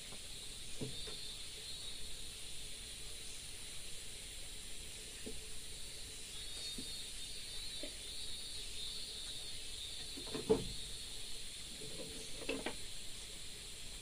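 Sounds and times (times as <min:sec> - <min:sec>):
insect chorus hissing: 0:00.0 - 0:14.0.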